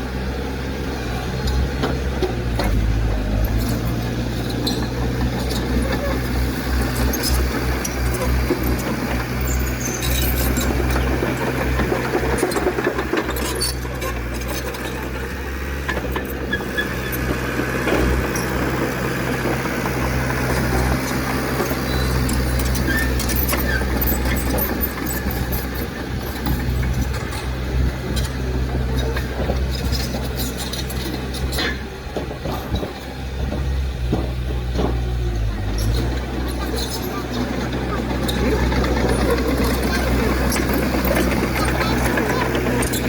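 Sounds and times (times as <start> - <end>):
heavy machine engine under load: 0.0 - 43.0.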